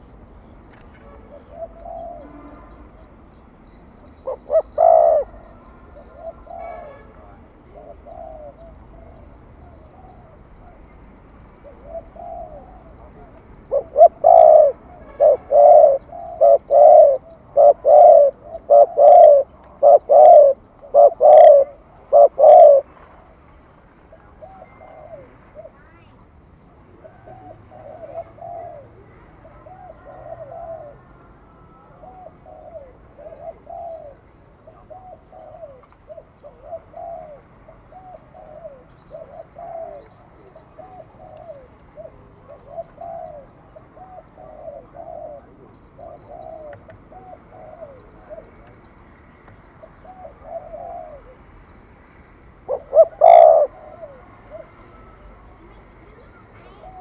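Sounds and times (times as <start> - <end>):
dove cooing: 1.0 - 2.6, 4.2 - 10.9, 11.6 - 22.9, 24.1 - 26.1, 26.9 - 48.8, 49.6 - 51.4, 52.6 - 57.0.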